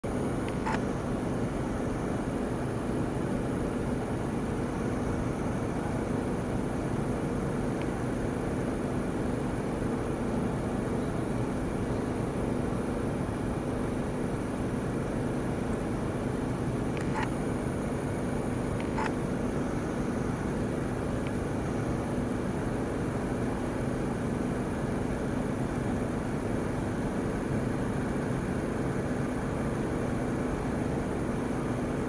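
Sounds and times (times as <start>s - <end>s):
low mechanical drone: 0.0s - 31.8s.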